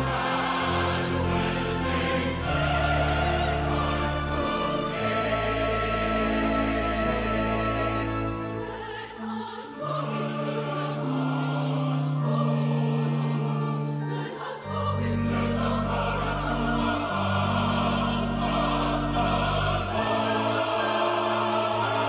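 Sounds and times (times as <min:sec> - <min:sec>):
choir singing: 0:00.0 - 0:22.0
orchestra playing sustained chords: 0:00.0 - 0:22.0.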